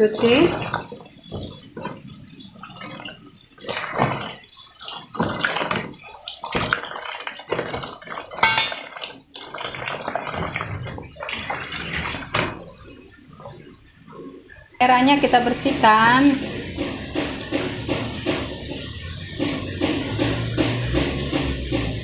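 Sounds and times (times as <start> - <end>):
water dripping: 0.0 - 22.0
water splashing and sloshing: 0.0 - 22.0.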